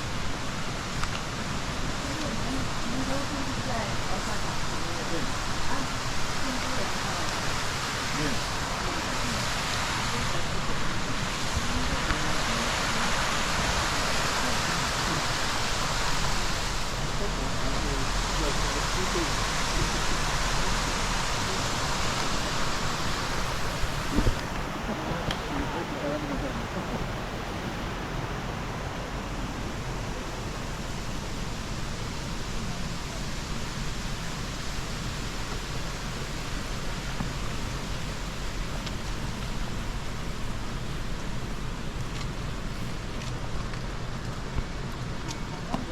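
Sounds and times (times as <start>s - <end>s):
faint distant voices: 0.0s - 45.9s
river water rushing: 0.0s - 45.9s.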